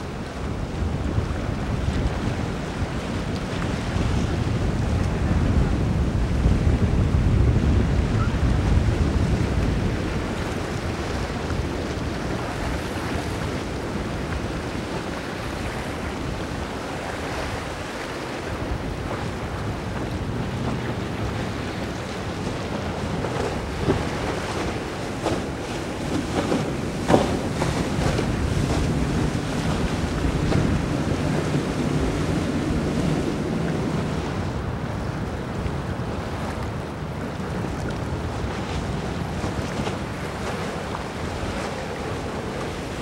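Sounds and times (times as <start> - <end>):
waves and boat wake: 0.0 - 43.0
wind buffeting microphone: 0.0 - 43.0.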